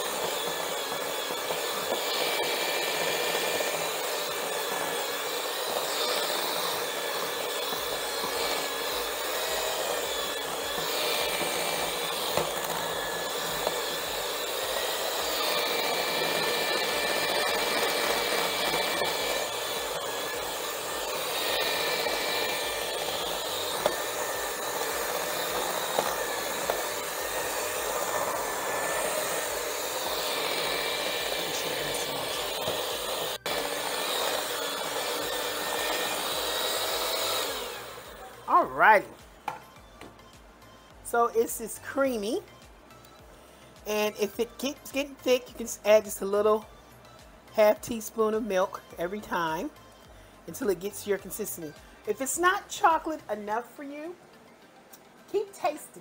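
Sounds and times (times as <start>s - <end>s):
electric hand mixer whirring: 0.0s - 49.8s.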